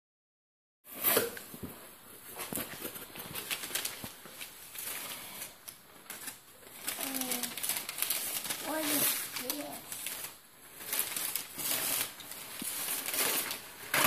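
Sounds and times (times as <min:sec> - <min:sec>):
paper rustling and crinkling: 0:01.6 - 0:14.0.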